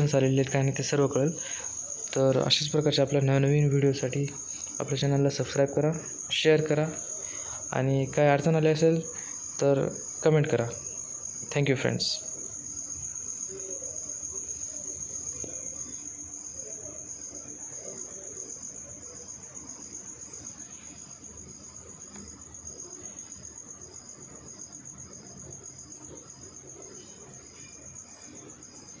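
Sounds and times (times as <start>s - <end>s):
cricket trilling: 0.0s - 29.0s
faint pulsing chirp: 0.0s - 29.0s
faint room noise: 0.0s - 29.0s.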